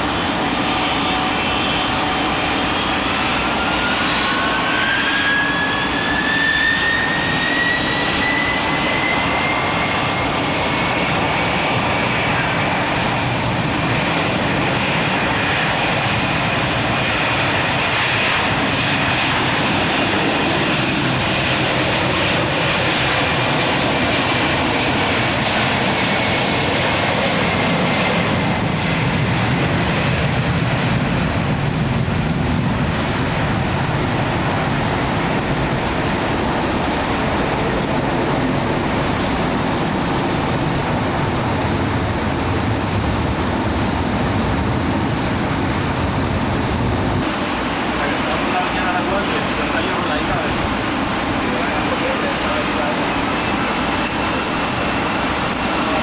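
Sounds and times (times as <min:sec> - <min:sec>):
jet engine turbine whine: 0:00.0 - 0:56.0
steady rushing noise: 0:10.2 - 0:56.0.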